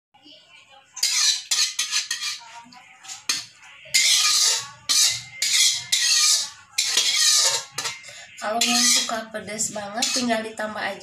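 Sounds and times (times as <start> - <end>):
metal spatula scraping wok: 0.9 - 10.7.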